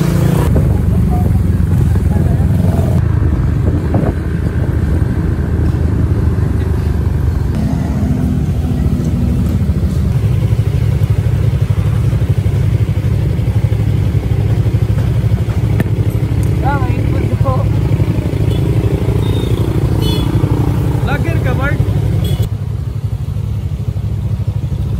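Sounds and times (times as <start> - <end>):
motorcycle engines running: 0.0 - 24.9.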